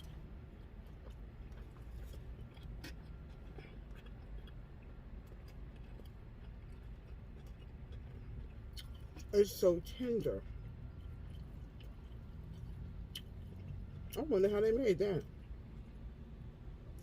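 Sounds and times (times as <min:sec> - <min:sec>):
person chewing food: 0:00.0 - 0:14.3, 0:15.1 - 0:16.1
low steady rumble: 0:00.0 - 0:17.0.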